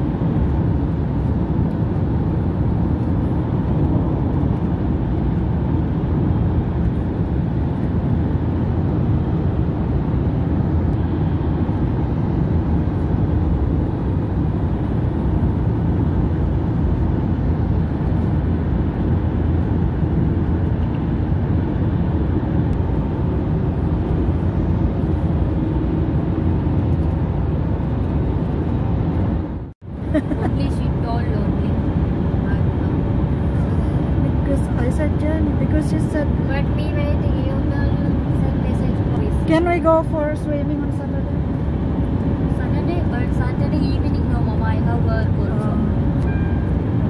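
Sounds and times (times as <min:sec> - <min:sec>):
car engine drone: 0:00.0 - 0:47.0.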